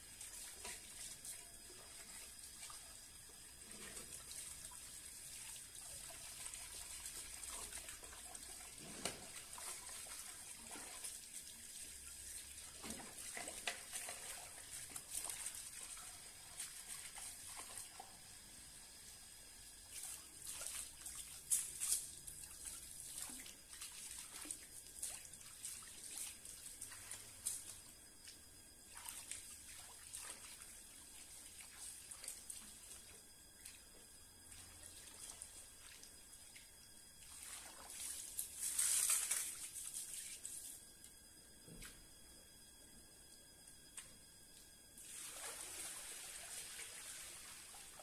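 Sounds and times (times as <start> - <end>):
water trickling and sloshing: 0.0 - 18.3, 19.8 - 40.8, 44.5 - 48.0.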